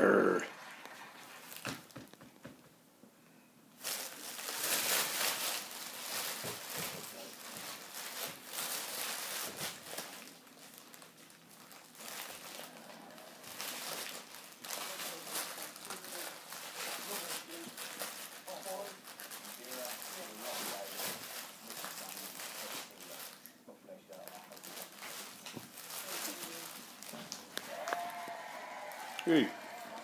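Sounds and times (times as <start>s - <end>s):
plastic bag crinkling and rustling: 1.2s - 2.1s, 3.8s - 23.5s, 24.1s - 29.7s.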